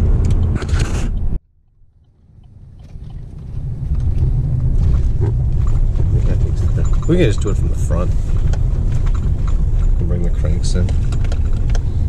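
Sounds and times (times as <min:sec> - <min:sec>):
truck rumble inside cab: 0:00.0 - 0:12.0.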